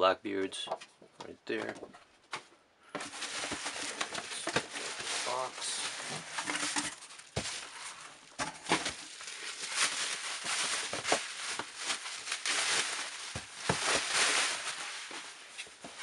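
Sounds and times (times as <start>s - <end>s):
cardboard box rustling: 3.0s - 16.0s.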